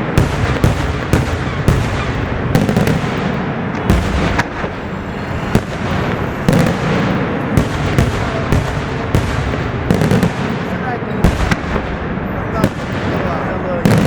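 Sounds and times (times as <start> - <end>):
fireworks bursts and crackle: 0.0 - 14.0
sharp firework bangs: 0.0 - 14.0.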